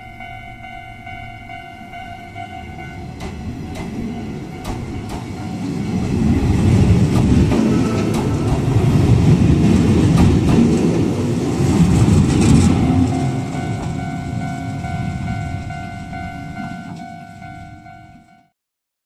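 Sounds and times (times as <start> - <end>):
electric train rumbling: 0.0 - 18.5
wheels clicking over rail joints: 2.3 - 17.8.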